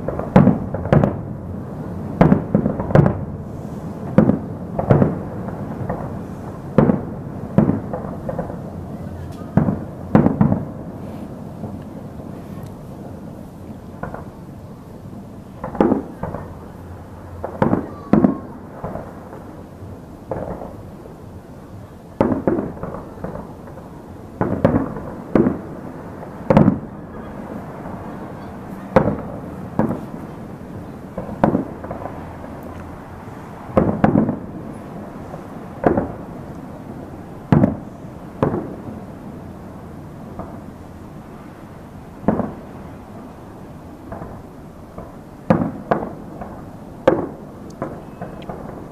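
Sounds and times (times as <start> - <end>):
firework shells booming: 0.0 - 12.7, 13.8 - 14.5, 15.5 - 39.2, 40.3 - 40.7, 42.2 - 43.0, 44.0 - 48.9.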